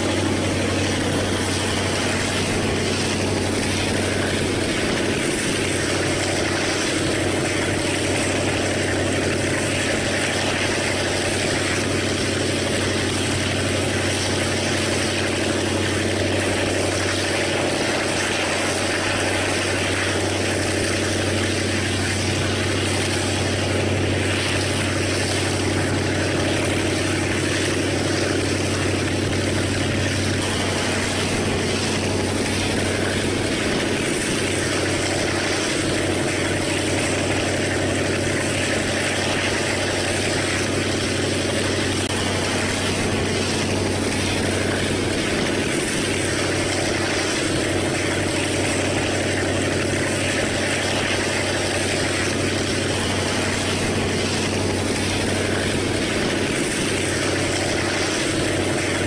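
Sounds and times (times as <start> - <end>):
locomotive engine drone: 0.0 - 59.0.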